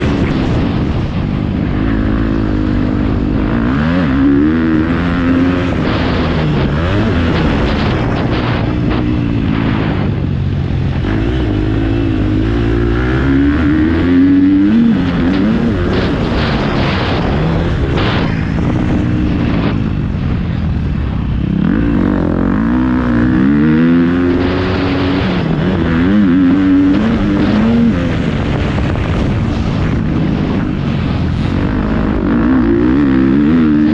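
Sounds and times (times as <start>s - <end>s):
motocross bike engine revving: 0.0s - 33.9s.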